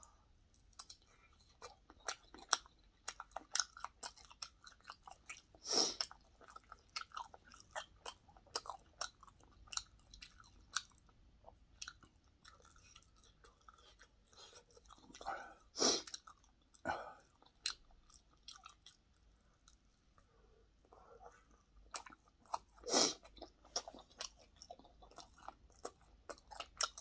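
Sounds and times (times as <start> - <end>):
person chewing crunchy food: 0.5 - 20.2, 20.8 - 27.0.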